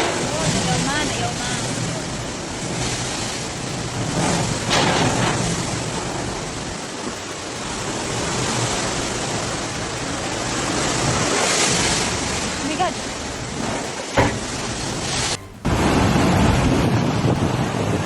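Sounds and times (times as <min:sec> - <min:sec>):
rushing storm noise: 0:00.0 - 0:18.0.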